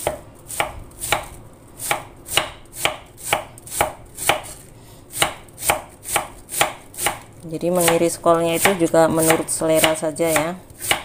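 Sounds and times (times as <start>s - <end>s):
knife slicing cabbage on board: 0.0s - 11.0s.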